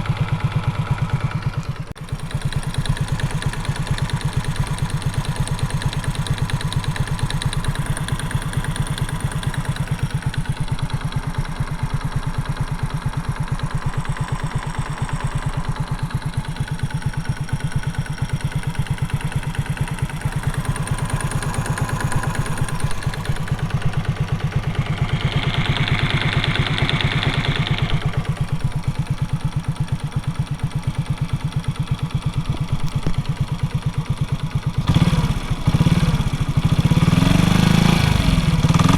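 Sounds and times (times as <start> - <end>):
metallic engine knock: 0.0 - 35.0
motorcycle engine idling: 0.0 - 38.9.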